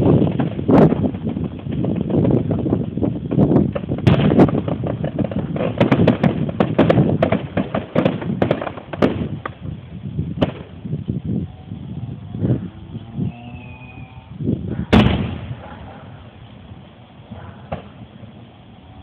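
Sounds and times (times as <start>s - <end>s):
fireworks bangs and crackles: 0.0s - 11.3s, 13.6s - 19.0s.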